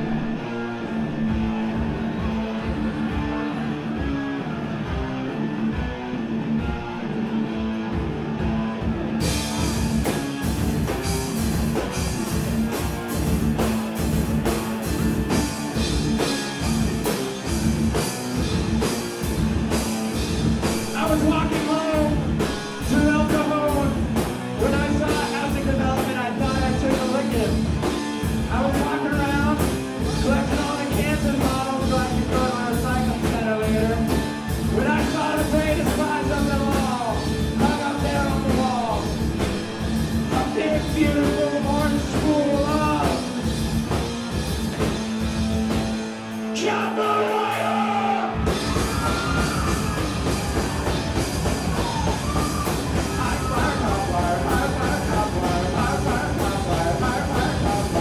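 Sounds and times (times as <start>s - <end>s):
electric guitar: 0.0s - 58.0s
drum kit and cymbals: 9.2s - 58.0s.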